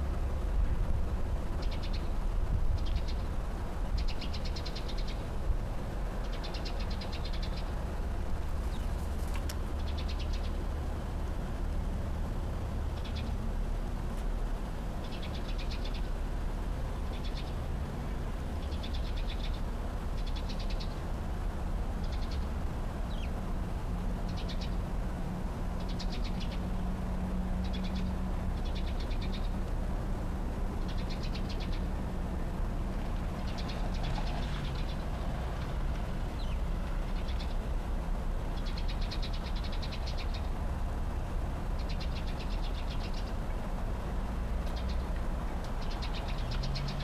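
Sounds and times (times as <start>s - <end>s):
steady low rumble: 0.0s - 46.5s.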